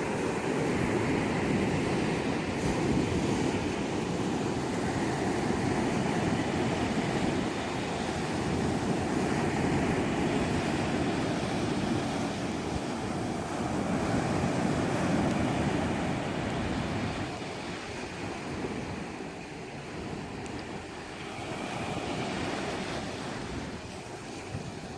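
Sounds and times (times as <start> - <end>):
sea surf rushing: 0.0 - 24.9
wind: 0.0 - 24.9.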